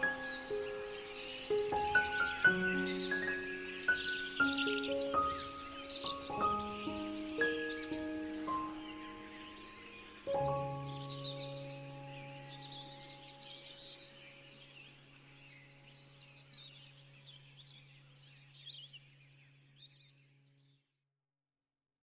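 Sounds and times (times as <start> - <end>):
small birds chirping: 0.0 - 20.8.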